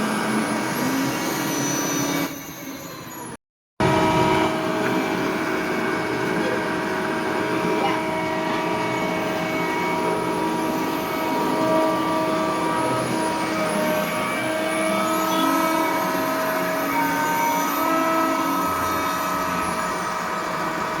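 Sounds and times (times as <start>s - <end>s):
machinery engine humming: 3.8s - 21.0s.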